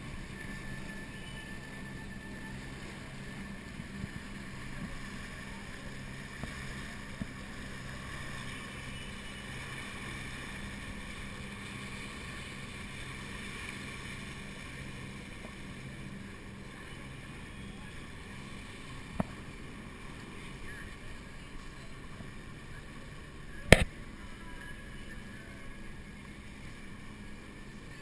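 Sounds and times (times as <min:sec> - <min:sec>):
low steady hum: 0:00.0 - 0:28.0
water rushing along hulls: 0:00.0 - 0:28.0.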